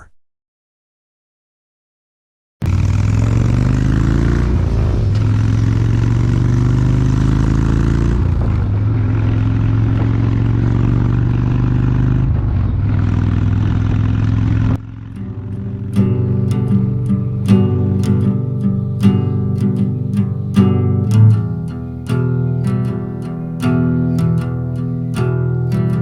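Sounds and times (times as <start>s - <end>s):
motorcycle engine pulling away: 2.6s - 26.0s.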